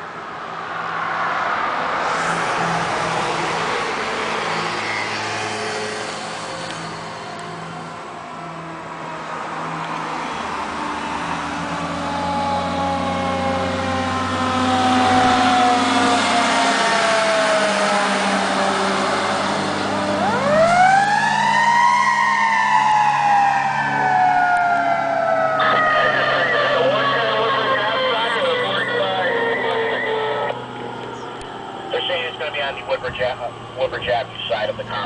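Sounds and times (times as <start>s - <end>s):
truck engine drone: 0.0s - 35.0s
fire engine siren wailing: 0.6s - 35.0s.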